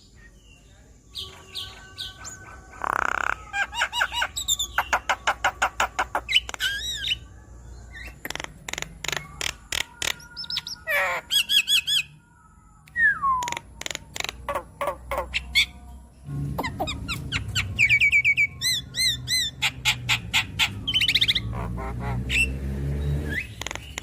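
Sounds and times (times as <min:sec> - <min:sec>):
bird singing varied song: 0:00.0 - 0:24.0.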